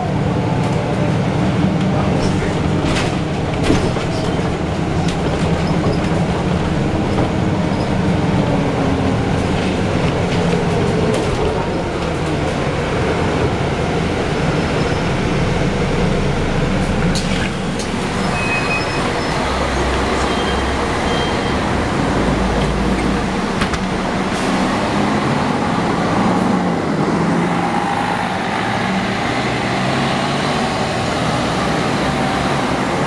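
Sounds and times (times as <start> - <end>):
bus engine rumble and whine: 0.0 - 33.0.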